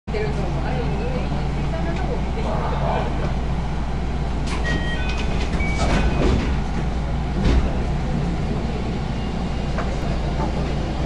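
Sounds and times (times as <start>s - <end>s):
electric train equipment hum: 0.1s - 11.0s.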